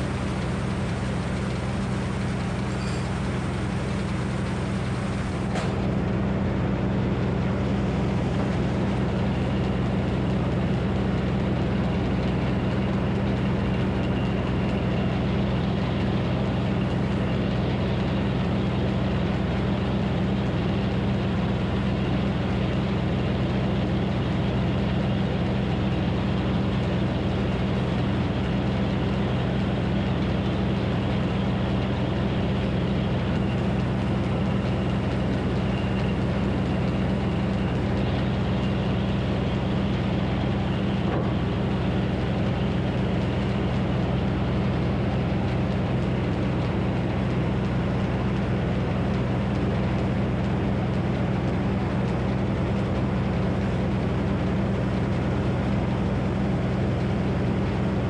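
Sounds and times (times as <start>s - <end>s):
sawmill engine running steadily: 0.0s - 58.0s.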